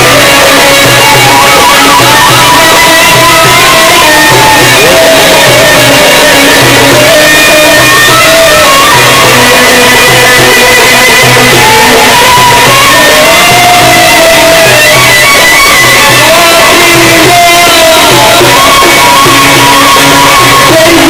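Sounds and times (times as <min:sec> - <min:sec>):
amplified band with sliding melody: 0:00.0 - 0:21.0
person singing: 0:00.0 - 0:21.0
steady pulsing beat: 0:00.0 - 0:21.0.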